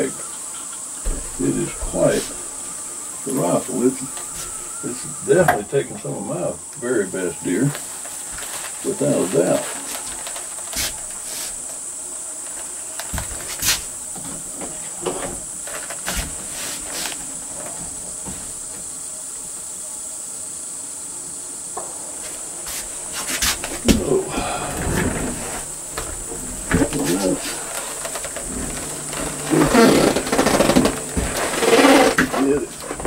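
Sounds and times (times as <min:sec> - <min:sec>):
high-pitched insect buzz: 0:00.0 - 0:33.0.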